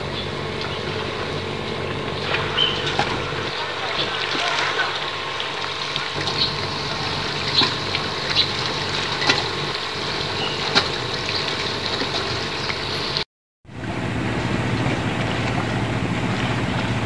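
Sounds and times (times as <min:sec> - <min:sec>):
low engine hum: 0:00.0 - 0:17.0
water washing: 0:00.0 - 0:17.0.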